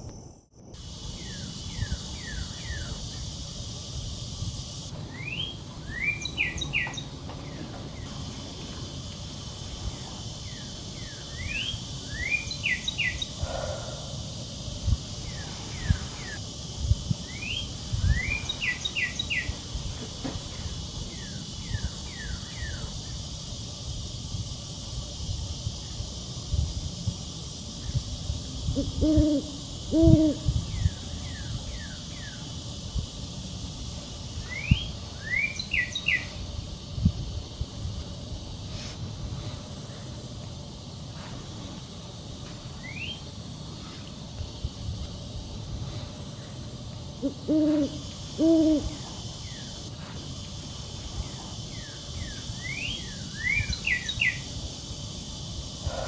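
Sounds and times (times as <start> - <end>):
high insect-like hiss: 0.0 - 56.0.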